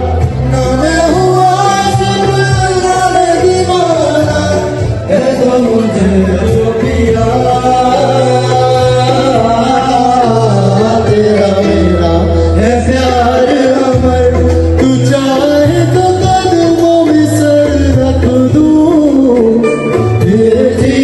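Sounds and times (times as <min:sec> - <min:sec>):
instrumental accompaniment with bass: 0:00.0 - 0:21.0
man singing into microphone: 0:00.0 - 0:21.0.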